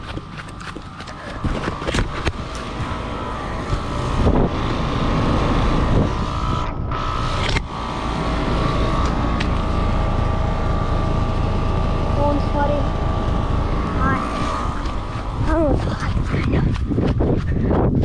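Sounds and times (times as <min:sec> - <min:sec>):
air conditioner unit humming: 0:00.0 - 0:18.0.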